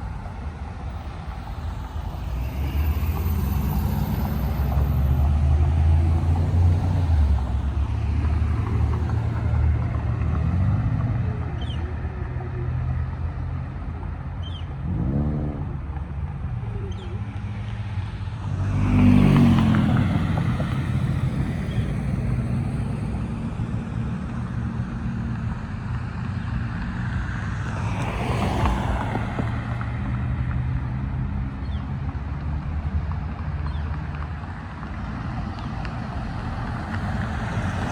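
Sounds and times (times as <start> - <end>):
vehicles driving past: 0.0 - 37.9.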